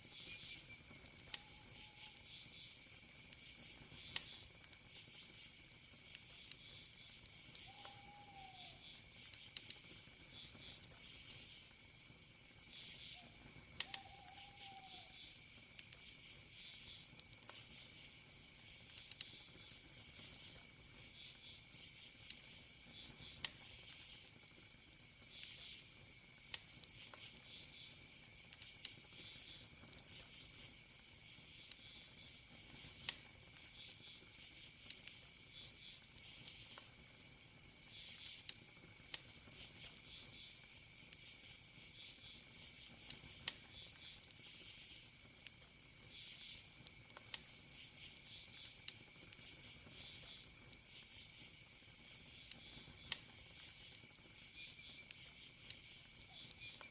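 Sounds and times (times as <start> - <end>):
campfire crackling and popping: 0.0 - 56.9
crickets chirping: 0.0 - 56.9.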